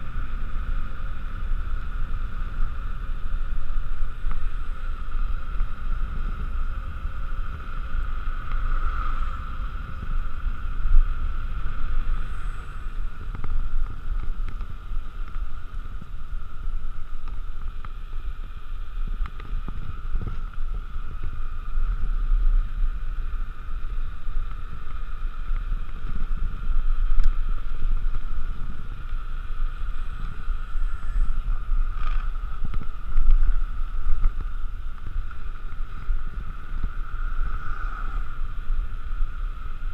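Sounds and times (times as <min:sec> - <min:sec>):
bike wheels whirring: 0:00.0 - 0:39.9
wind buffeting microphone: 0:00.0 - 0:39.9.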